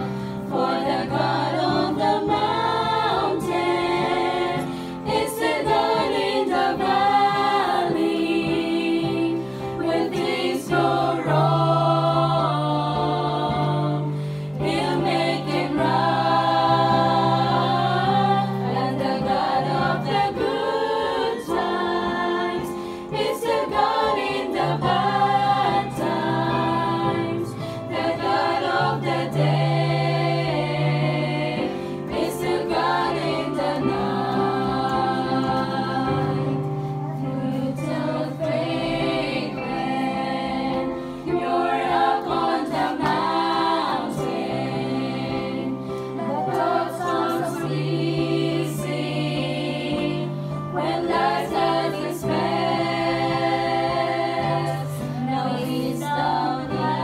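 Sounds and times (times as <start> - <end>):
women singing gospel: 0.0 - 57.0.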